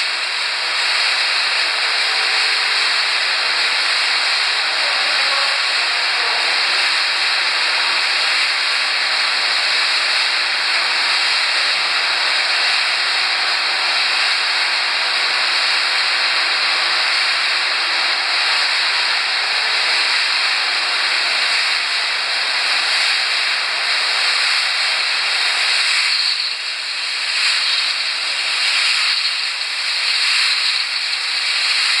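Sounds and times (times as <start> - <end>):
machinery hissing: 0.0 - 32.0.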